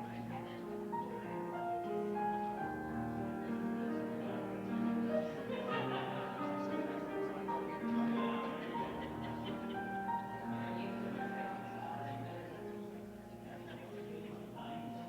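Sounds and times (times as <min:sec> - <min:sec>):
slow keyboard music: 0:00.0 - 0:15.0.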